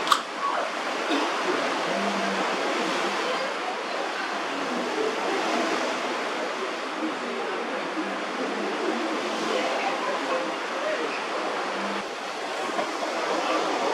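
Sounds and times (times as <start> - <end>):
water rushing: 0.0 - 13.9.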